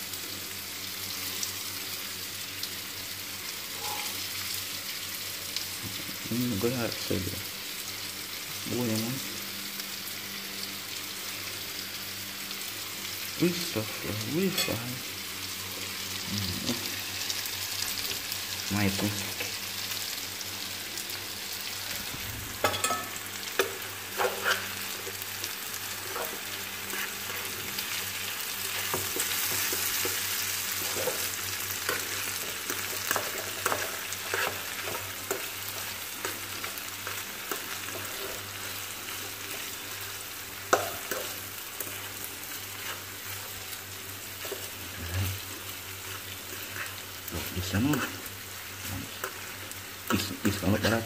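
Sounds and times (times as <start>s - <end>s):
food frying in hot oil: 0.0s - 51.0s.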